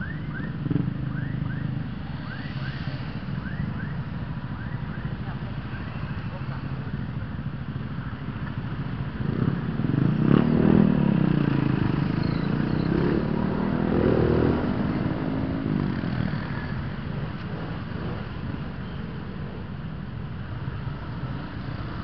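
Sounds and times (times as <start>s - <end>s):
motor scooter engines revving: 0.0s - 22.0s.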